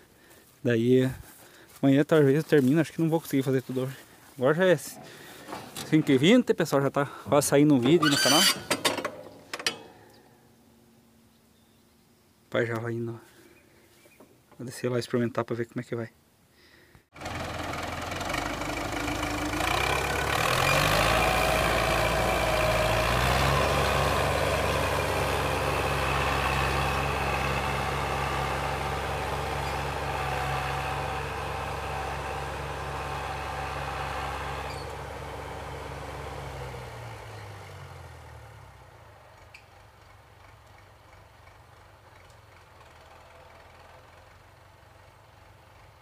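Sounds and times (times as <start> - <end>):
tractor diesel engine: 0.0 - 11.1, 17.1 - 46.0.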